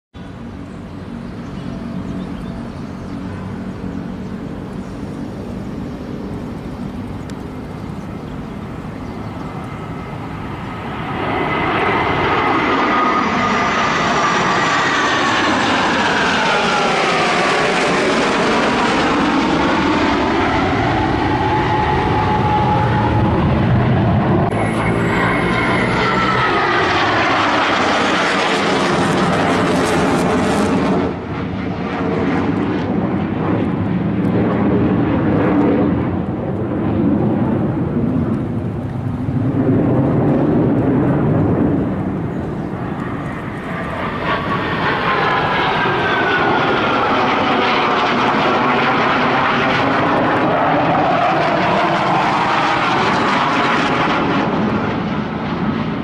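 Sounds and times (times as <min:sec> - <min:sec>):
high jet whine falling in pitch: 0:00.2 - 0:56.0
jet engines roaring: 0:00.2 - 0:56.0.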